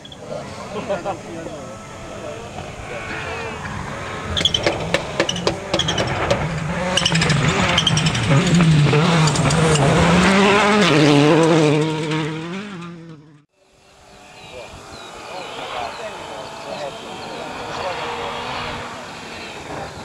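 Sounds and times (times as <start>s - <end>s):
rally car engine at full throttle: 0.0s - 20.0s.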